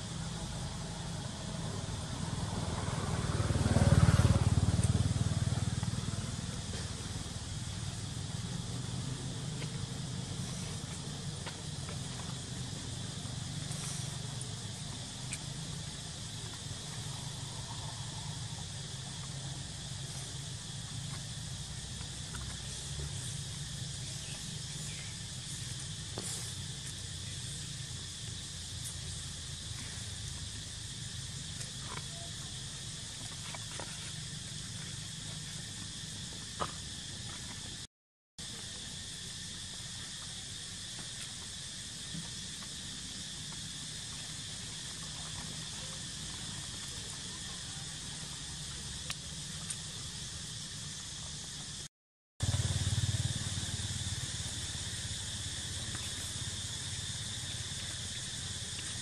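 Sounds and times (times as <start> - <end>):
constant hiss: 0.0 - 59.0
high insect drone: 0.0 - 59.0.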